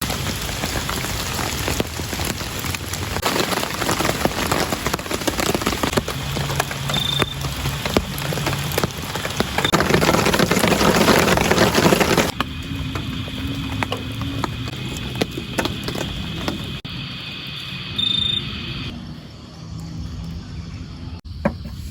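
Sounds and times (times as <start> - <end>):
heavy rain falling: 0.0 - 17.6.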